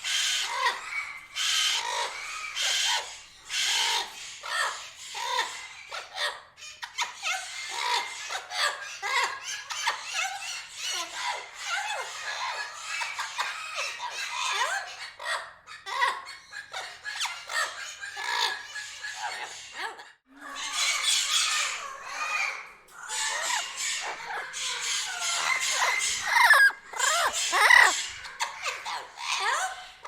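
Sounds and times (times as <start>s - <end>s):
parrots squawking and chattering: 0.0s - 30.0s.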